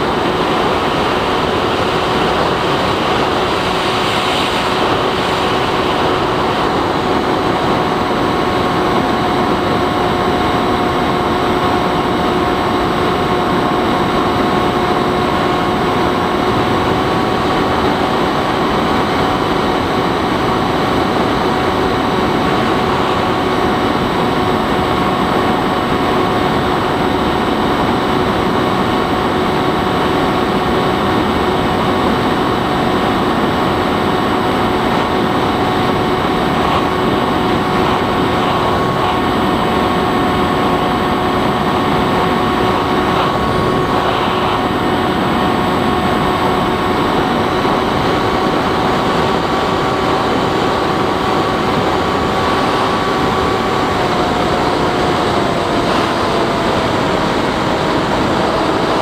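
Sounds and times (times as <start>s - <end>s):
rush of air: 0.0s - 11.7s, 21.7s - 59.0s
electric motor whine: 0.0s - 59.0s.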